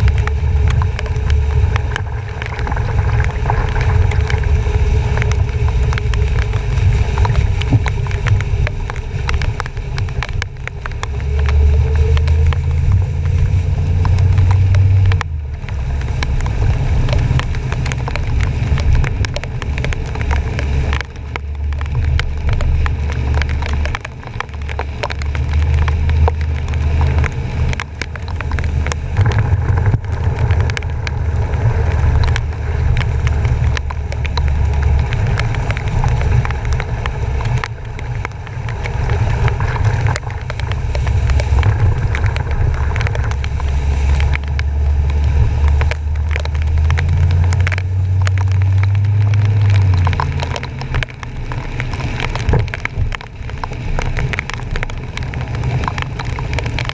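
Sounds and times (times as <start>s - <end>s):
rain and spray hitting camera: 0.0s - 56.9s
truck driving through water: 10.9s - 56.9s.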